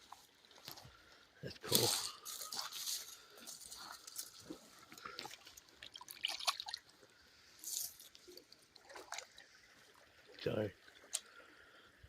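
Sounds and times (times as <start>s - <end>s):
creek water trickling: 0.0s - 12.0s.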